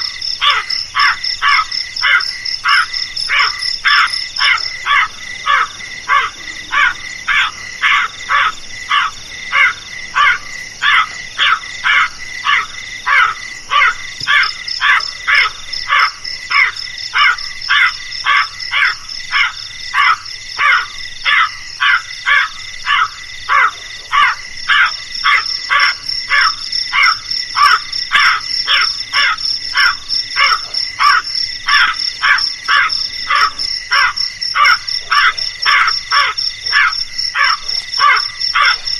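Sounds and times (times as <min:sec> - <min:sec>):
crow cawing: 0:00.0 - 0:38.8.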